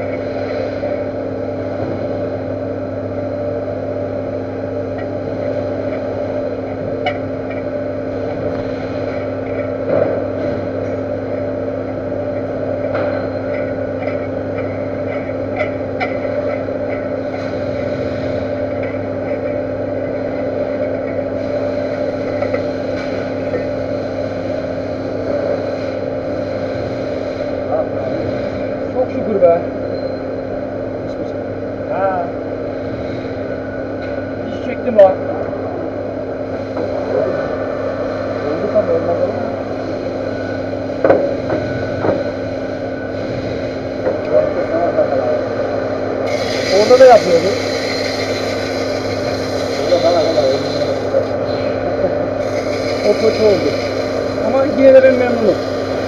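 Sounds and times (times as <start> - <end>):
metal lathe humming: 0.0 - 29.3, 37.8 - 56.0.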